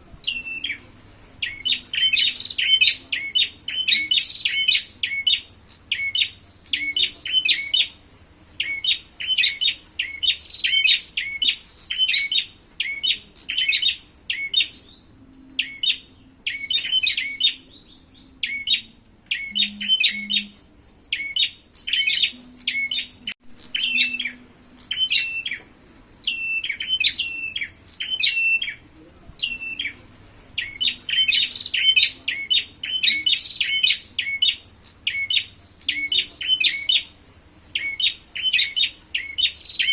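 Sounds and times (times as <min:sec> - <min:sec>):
songbirds fighting with sharp chirps: 0:00.0 - 0:39.9.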